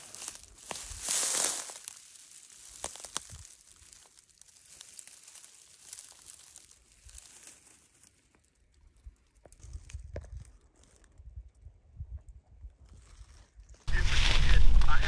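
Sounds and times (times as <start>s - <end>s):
dry leaves crackling underfoot: 0.0s - 11.2s, 12.8s - 15.0s.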